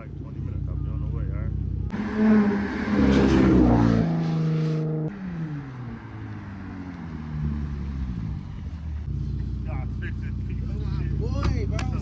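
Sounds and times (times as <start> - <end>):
car engine revving: 1.9 - 12.0.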